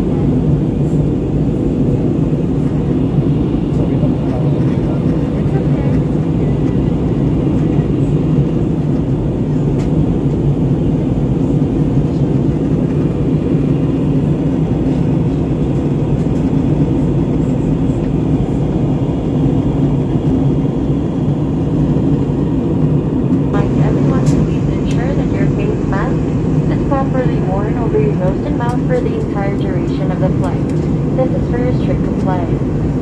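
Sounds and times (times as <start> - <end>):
airliner cabin drone: 0.0 - 33.0.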